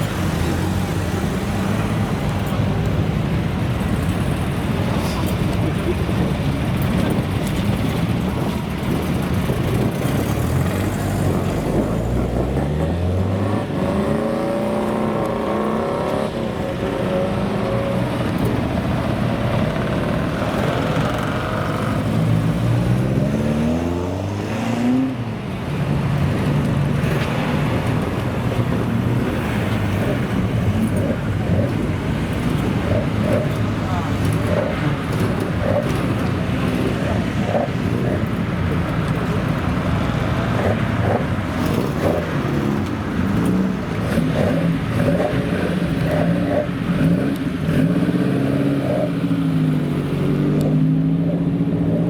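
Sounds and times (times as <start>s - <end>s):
car engines accelerating hard: 0.0s - 52.0s.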